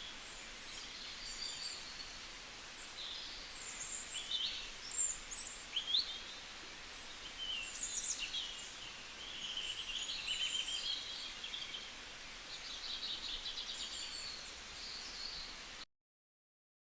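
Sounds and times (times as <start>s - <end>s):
songbirds chirping and trilling: 0.0s - 15.8s
steady background hiss: 0.0s - 15.8s.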